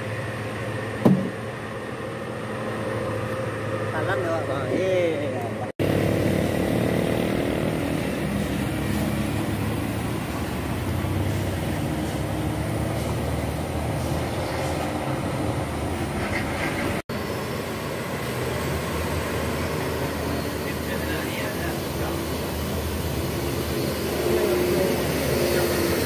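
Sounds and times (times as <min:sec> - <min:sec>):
diesel bus engines: 0:00.0 - 0:26.0
tyre and road noise: 0:00.0 - 0:26.0.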